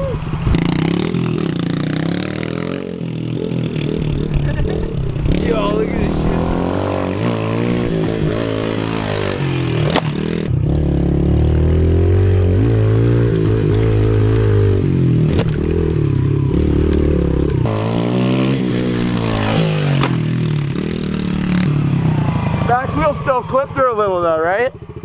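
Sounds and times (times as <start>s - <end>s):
pit bike engine revving: 0.5s - 25.0s.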